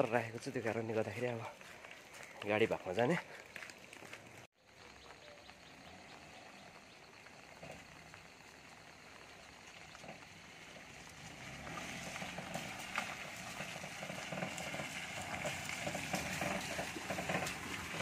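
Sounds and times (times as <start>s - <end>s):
tyres crackling on wet gravel: 0.0s - 18.0s
low car engine hum: 3.4s - 18.0s.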